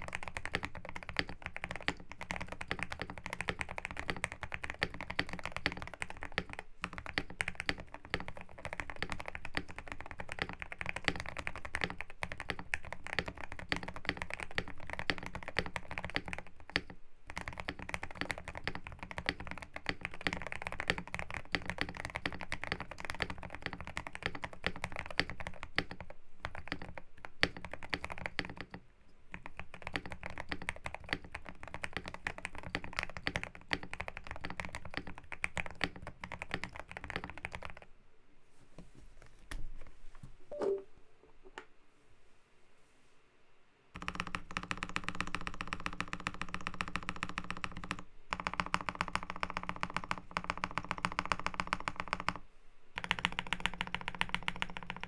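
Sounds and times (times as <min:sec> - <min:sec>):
mechanical keyboard typing: 0:00.0 - 0:37.9, 0:44.0 - 0:52.4, 0:53.0 - 0:55.0.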